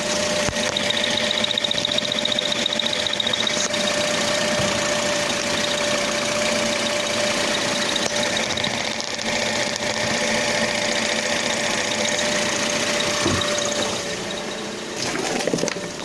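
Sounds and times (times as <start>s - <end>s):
gearbox whistle: 0.0s - 15.1s
car engine running: 0.0s - 16.0s.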